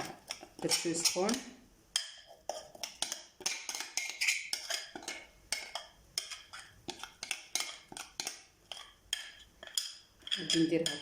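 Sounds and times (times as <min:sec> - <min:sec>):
utensil scraping a bowl: 0:00.0 - 0:11.0.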